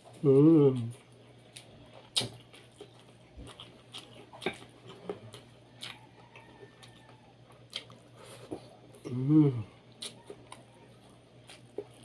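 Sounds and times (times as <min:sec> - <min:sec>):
person chewing with mouth smacks: 0:00.1 - 0:12.0.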